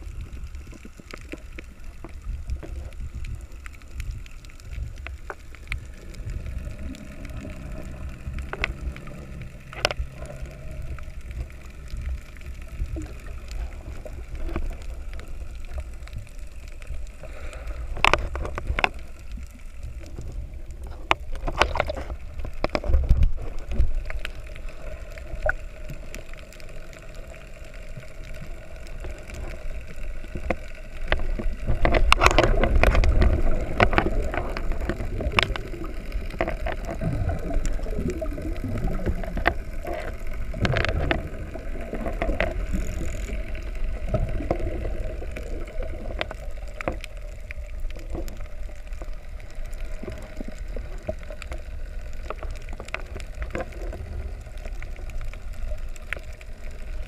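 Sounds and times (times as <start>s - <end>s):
faint steady hum: 0.0s - 57.0s
underwater rumble of moving water: 0.0s - 57.0s.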